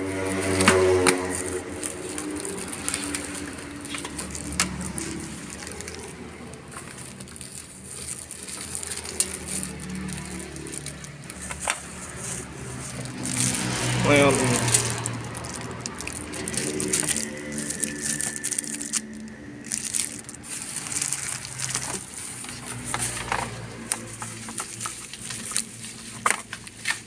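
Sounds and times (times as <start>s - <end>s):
clicks and rustling of packaging: 0.1s - 27.0s.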